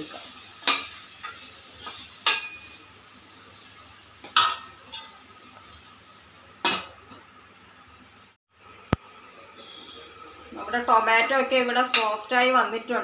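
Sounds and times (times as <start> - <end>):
masala sizzling: 0.0 - 13.0.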